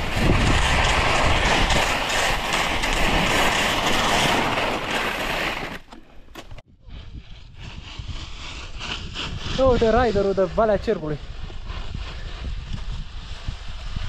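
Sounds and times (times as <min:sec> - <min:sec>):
skis scraping over hard snow: 0:00.0 - 0:06.6, 0:07.2 - 0:14.0.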